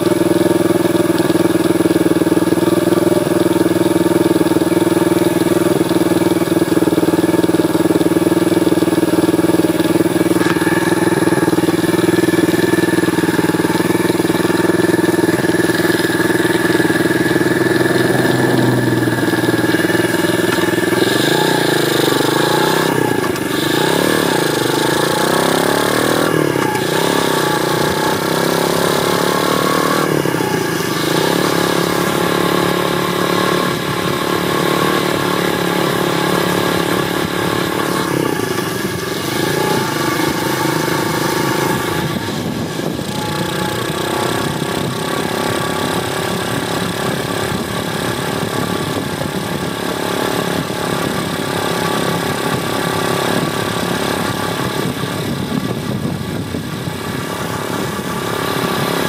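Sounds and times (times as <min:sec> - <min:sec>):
motorbike engine idling and revving: 0:00.0 - 0:59.0.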